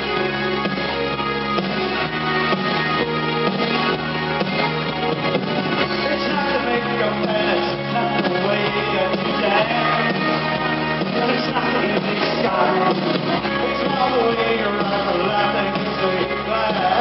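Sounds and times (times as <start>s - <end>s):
live new wave band playing: 0.0s - 17.0s.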